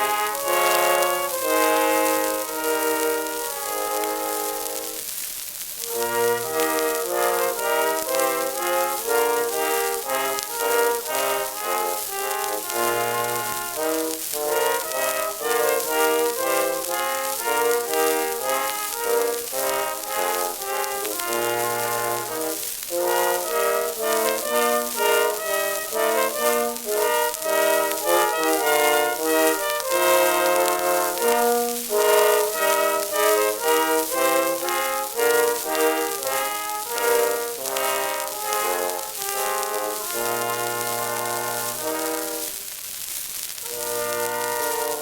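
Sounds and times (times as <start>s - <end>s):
brass band tune on old record: 0.0s - 45.0s
record surface hiss and crackle: 0.0s - 45.0s.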